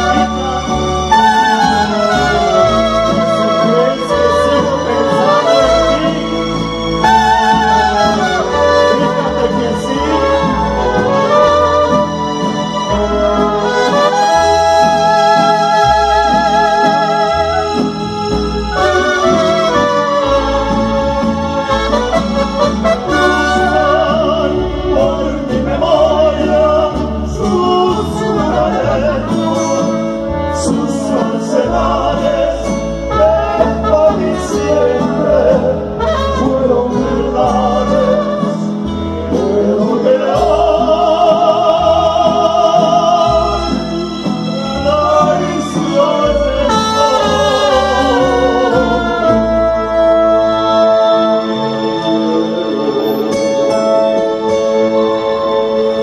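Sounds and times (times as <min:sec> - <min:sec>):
guitars: 0:00.0 - 0:56.0
keyboard: 0:00.0 - 0:56.0
mariachi band playing: 0:00.0 - 0:56.0
trumpet: 0:00.0 - 0:56.0.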